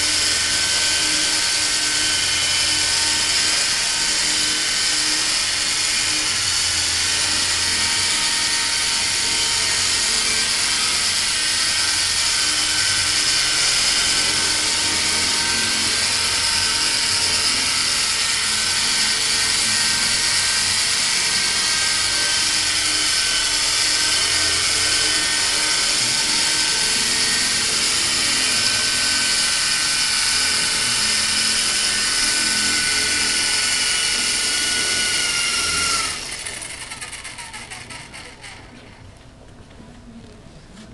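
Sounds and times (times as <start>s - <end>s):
helicopter motor whine: 0.0s - 38.8s
rotors buzzing: 0.0s - 39.0s.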